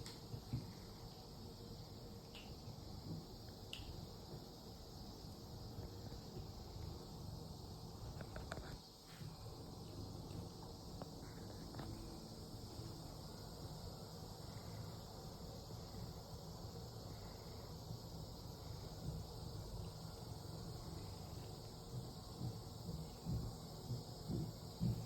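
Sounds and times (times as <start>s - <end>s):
insect chorus shrill hum: 0.0s - 25.0s.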